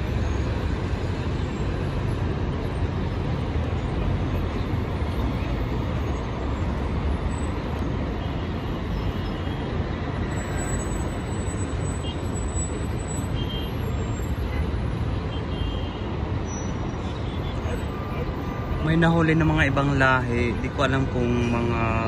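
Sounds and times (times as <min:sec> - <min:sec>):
traffic idling in a queue: 0:00.0 - 0:22.0.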